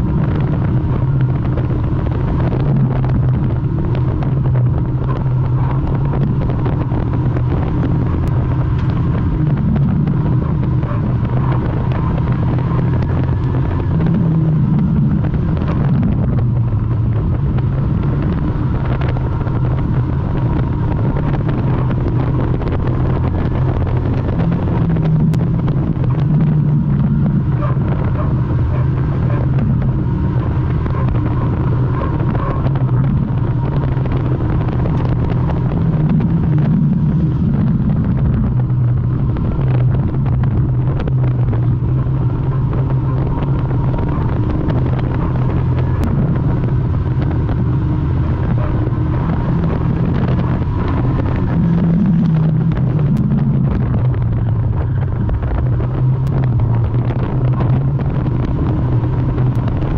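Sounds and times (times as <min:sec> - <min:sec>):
car engine running and revving: 0:00.0 - 0:59.9.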